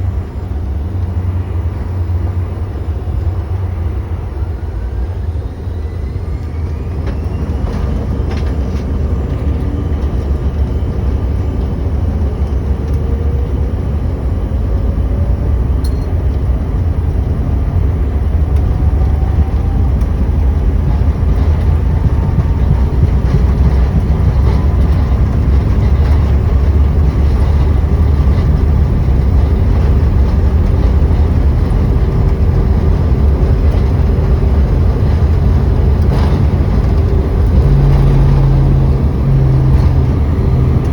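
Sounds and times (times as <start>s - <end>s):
faint rising whine: 0.0s - 40.9s
jet cabin rumble: 0.0s - 40.9s.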